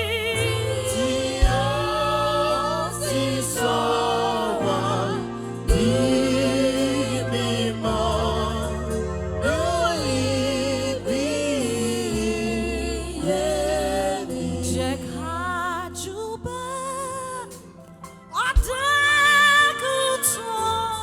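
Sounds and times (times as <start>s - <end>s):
person singing gospel: 0.0s - 17.8s
bass and keyboard notes: 0.0s - 21.0s.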